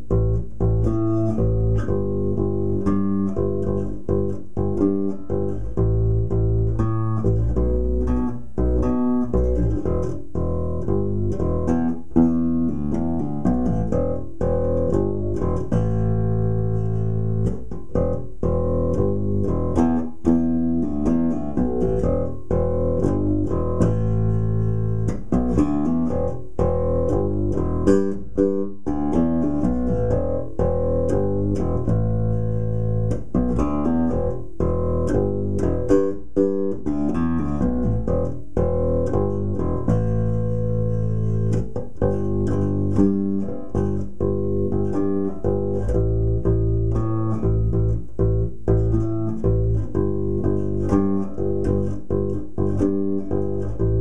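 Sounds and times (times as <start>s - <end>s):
electric bass riffs: 0.0s - 54.0s.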